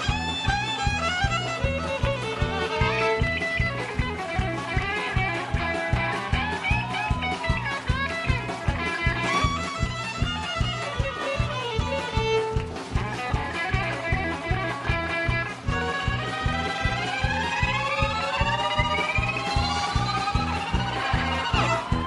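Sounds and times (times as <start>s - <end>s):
country band playing live: 0.0s - 22.0s
electric guitar solo with bending notes: 0.0s - 22.0s
fast drum and bass beat: 0.0s - 22.0s.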